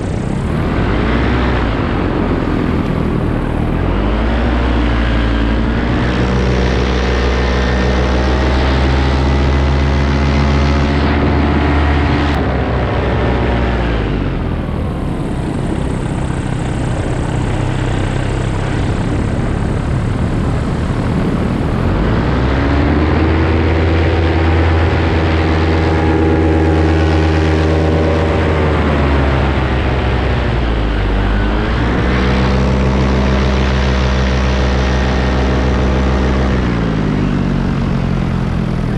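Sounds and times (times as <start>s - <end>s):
paramotor engine and propeller: 0.0s - 38.9s
rushing air noise: 0.0s - 38.9s.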